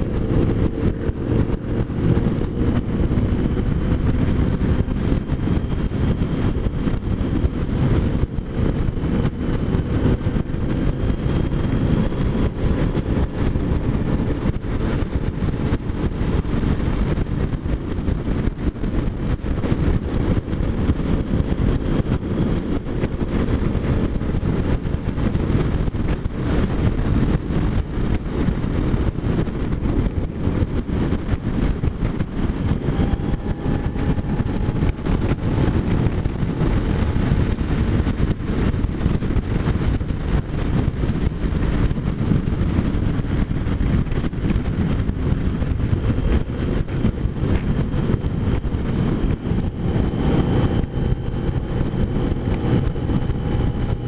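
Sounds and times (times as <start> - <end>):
motorcycle engine cruising: 0.0 - 54.0
wind buffeting microphone: 0.0 - 54.0.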